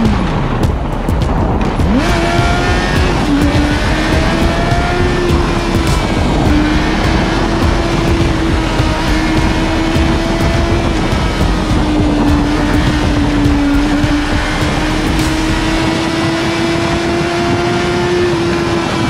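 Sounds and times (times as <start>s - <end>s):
motorcycle engine cruising: 0.0s - 19.0s
wind rush: 0.0s - 19.0s.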